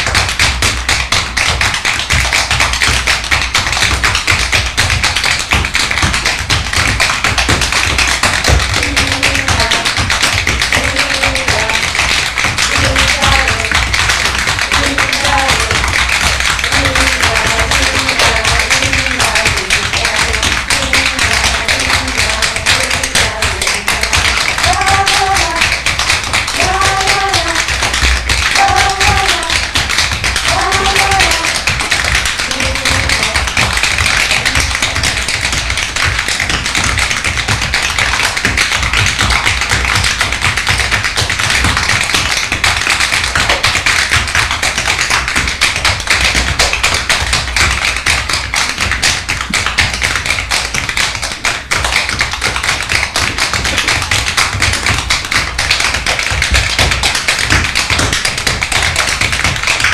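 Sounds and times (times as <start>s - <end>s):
tap shoes on wooden floor: 0.0s - 59.9s.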